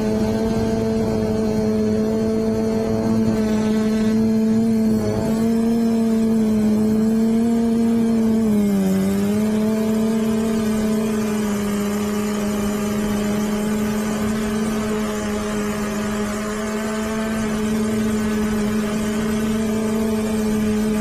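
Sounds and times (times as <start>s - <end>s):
drone propellers buzzing: 0.0s - 21.0s.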